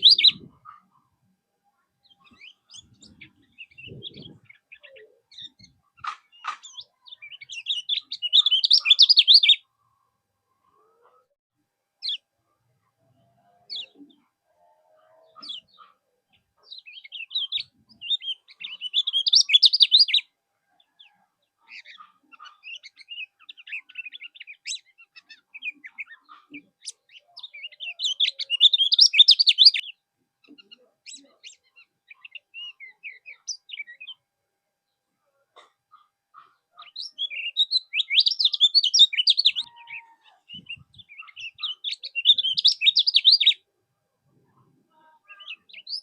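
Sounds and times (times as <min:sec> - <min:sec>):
songbird chirping and singing: 0:00.0 - 0:11.2, 0:12.0 - 0:35.1, 0:35.9 - 0:43.7, 0:44.3 - 0:46.0.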